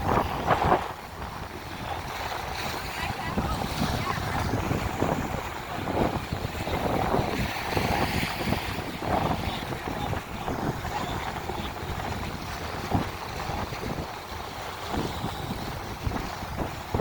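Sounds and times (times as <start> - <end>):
lake waves on shore: 0.0 - 17.0
wind buffeting microphone: 0.0 - 17.0.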